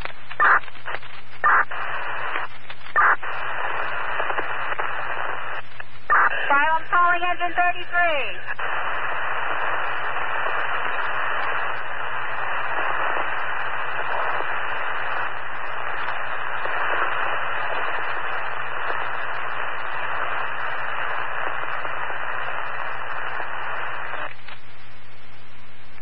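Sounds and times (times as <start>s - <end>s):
radio static hiss: 0.0s - 26.0s.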